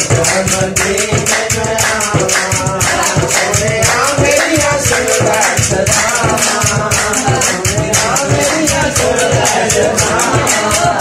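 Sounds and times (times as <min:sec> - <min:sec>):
man singing devotional song: 0:00.0 - 0:11.0.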